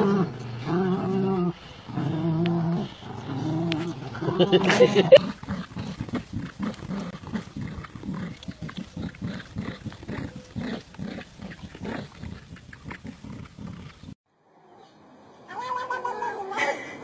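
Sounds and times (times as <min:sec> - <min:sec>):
dogs growling in play: 0:00.0 - 0:14.2.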